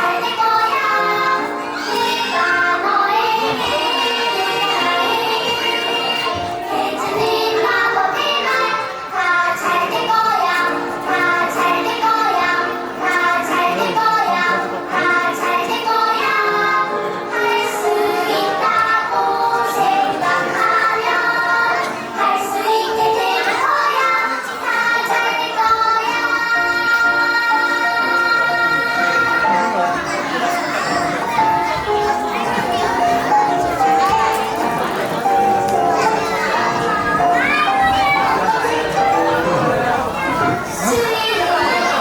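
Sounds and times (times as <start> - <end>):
children singing together: 0.0 - 42.0.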